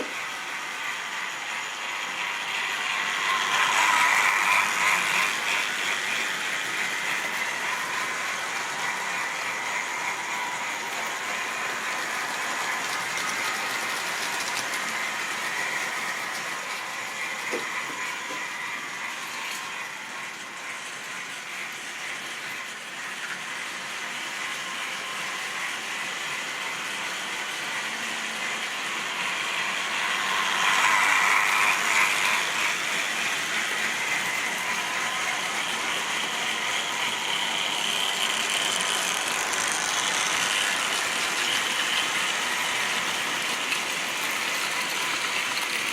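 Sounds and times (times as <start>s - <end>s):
model train whirring rattle: 0.0s - 45.9s
steady whining tones: 0.0s - 45.9s.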